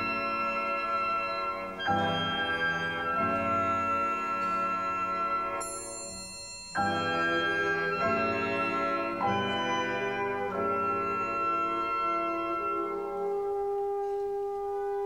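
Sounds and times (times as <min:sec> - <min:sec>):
orchestra playing sustained chords: 0:00.0 - 0:05.8, 0:06.9 - 0:15.0.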